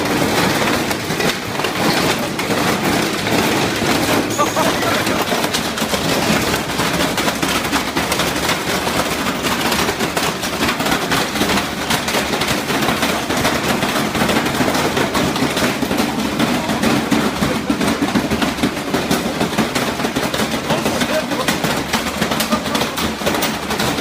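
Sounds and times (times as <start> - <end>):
washing machine clattering: 0.0 - 24.0.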